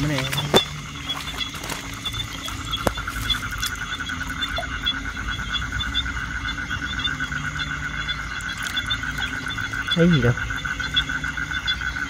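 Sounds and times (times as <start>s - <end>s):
frog chirps: 0.0s - 12.0s
frogs pulsing trill: 0.0s - 12.0s.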